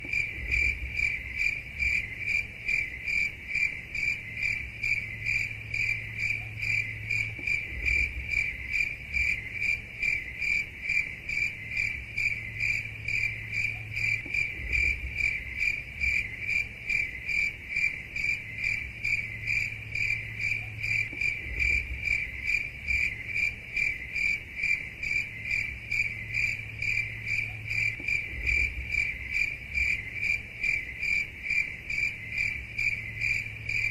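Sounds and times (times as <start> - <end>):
cricket chirping: 0.0 - 33.9.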